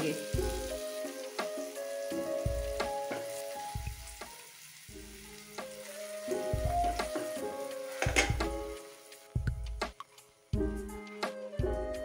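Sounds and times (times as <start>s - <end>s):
chicken sizzling in frying pan: 0.0s - 11.2s
soft background music: 0.0s - 12.0s.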